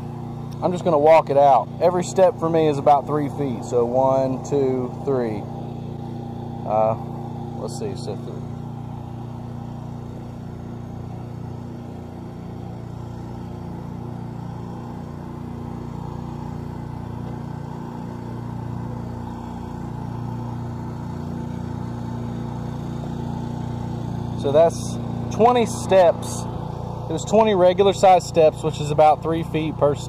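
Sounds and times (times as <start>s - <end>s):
pressure washer engine droning: 0.0s - 30.0s.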